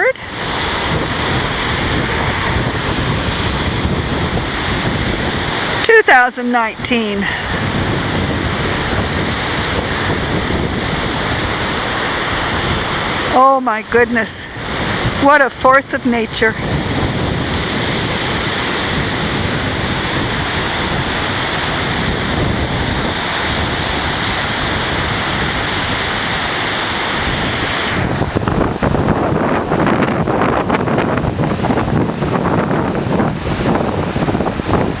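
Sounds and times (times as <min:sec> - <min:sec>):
waves breaking on shore: 0:00.0 - 0:35.0
wind buffeting microphone: 0:00.0 - 0:35.0.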